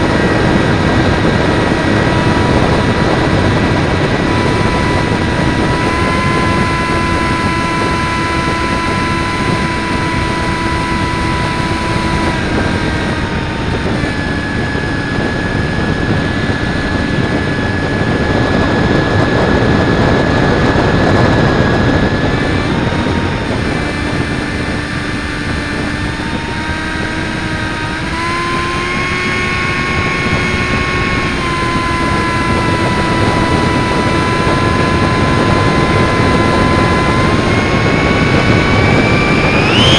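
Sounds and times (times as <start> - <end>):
model plane motor whine: 0.0 - 39.9
wind rushing over microphone: 0.0 - 39.9.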